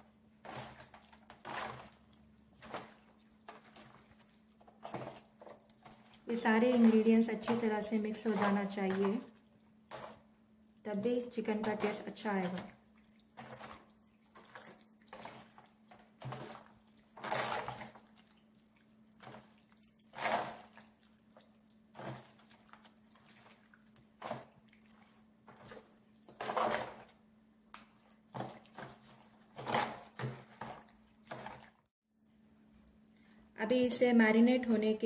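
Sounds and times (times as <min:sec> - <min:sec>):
hands squishing wet marinade: 0:00.0 - 0:31.9.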